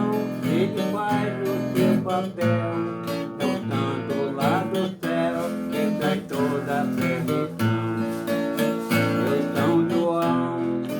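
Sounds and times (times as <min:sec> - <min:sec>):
strummed acoustic string instrument: 0:00.0 - 0:10.9.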